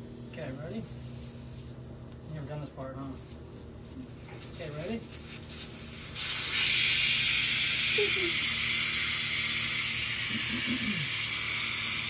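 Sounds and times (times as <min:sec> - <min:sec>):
air hissing from tire valve: 0:00.0 - 0:02.0, 0:04.1 - 0:12.0.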